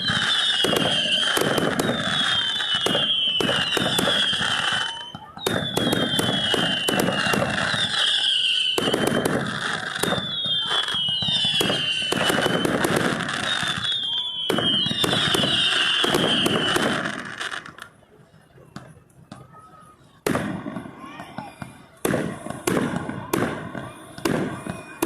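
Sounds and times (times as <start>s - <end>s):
descending firework whistles: 0.0s - 17.9s, 20.6s - 25.0s
fireworks crackling bangs: 0.0s - 18.0s, 20.2s - 25.0s.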